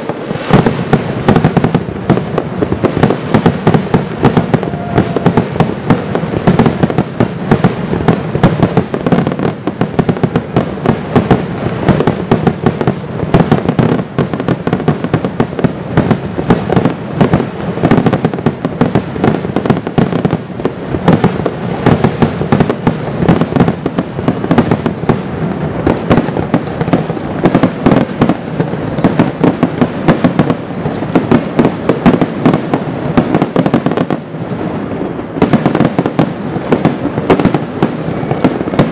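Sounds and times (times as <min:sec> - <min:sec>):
fireworks exploding: 0:00.0 - 0:38.9.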